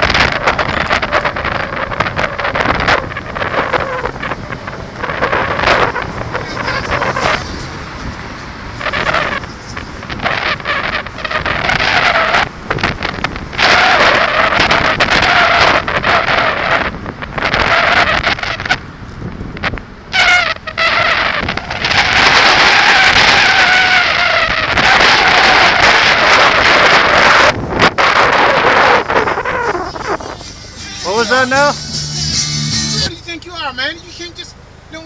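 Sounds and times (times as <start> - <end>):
wind buffeting microphone: 0.0 - 31.8
cars passing: 0.0 - 35.0.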